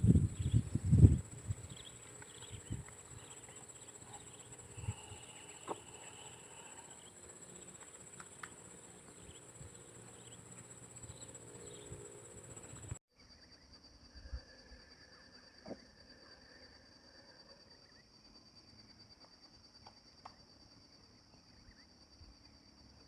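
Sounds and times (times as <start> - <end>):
high-pitched insect drone: 0.0 - 19.0
faint chirps: 0.0 - 20.1.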